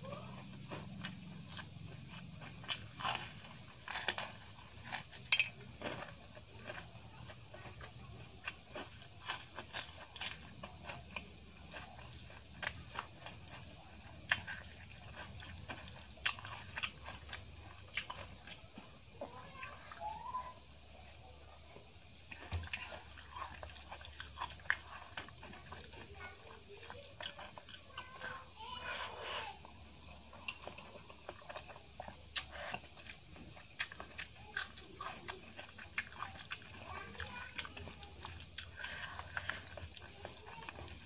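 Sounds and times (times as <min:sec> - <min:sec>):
person chewing crisp fritter: 0:00.0 - 0:41.0.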